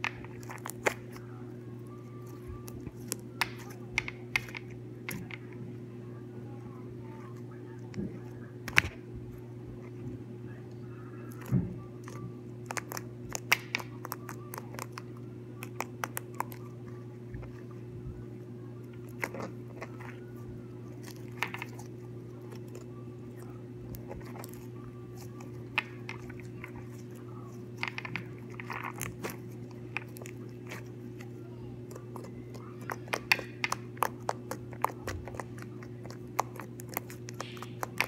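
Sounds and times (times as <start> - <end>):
slime squishing and crackling: 0.0 - 5.5, 11.3 - 38.0
steady low hum: 0.0 - 38.0.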